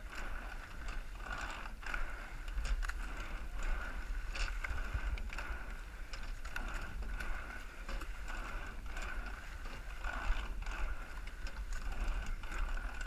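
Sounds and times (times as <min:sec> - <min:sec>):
oars clacking in oarlocks: 0:00.0 - 0:13.0.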